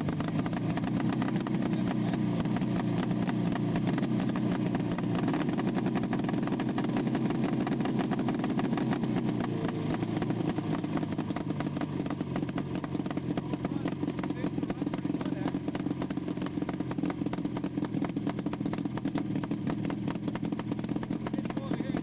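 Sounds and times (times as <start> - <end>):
snowmobile two-stroke engine running: 0.0 - 22.0.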